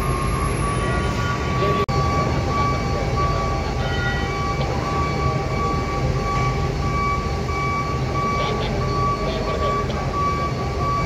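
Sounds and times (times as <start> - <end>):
diesel machinery rumble: 0.0 - 11.0
high tone beeping: 0.0 - 11.0.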